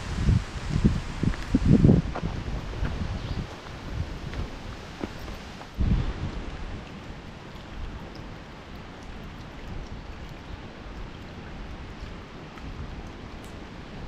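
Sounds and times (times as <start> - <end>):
wind buffeting microphone: 0.0 - 14.0
wind rustling leaves: 0.0 - 14.0.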